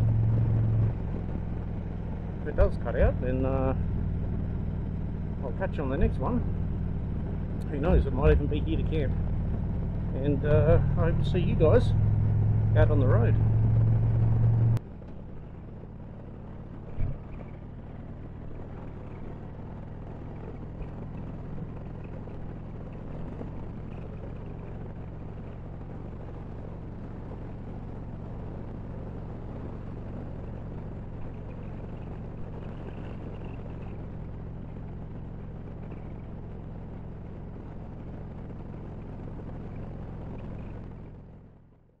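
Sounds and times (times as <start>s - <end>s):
motorcycle engine cruising: 0.0s - 42.0s
road and wind noise: 0.0s - 42.0s.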